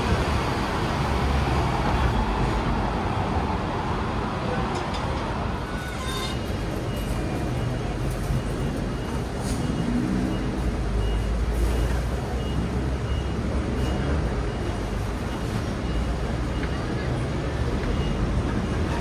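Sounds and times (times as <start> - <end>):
street traffic: 0.0 - 19.0
tram rumbling: 0.0 - 19.0.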